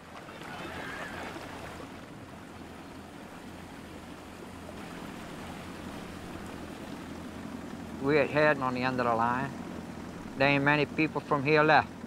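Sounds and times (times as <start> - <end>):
boat motor drone: 0.0 - 12.0
water rushing along hull: 0.0 - 12.0.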